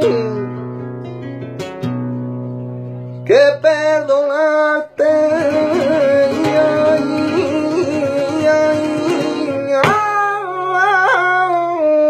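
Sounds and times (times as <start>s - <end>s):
man singing flamenco: 0.0s - 2.1s, 3.0s - 12.0s
acoustic guitar: 0.0s - 12.0s.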